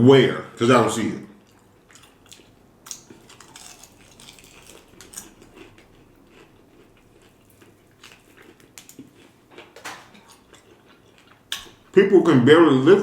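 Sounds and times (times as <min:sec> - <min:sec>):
chewing and wet mouth sounds: 0:01.4 - 0:12.0.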